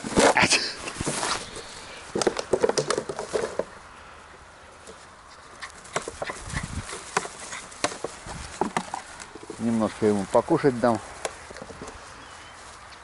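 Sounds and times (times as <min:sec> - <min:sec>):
puppy scuffling in grass: 0:00.0 - 0:03.8, 0:04.7 - 0:13.0.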